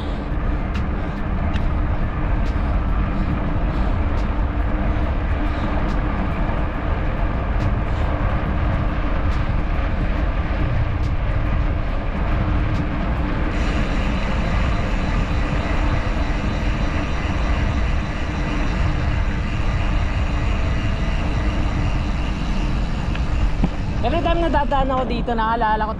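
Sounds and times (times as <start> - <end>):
road and traffic noise: 0.0 - 25.9
wind buffeting microphone: 0.0 - 25.9.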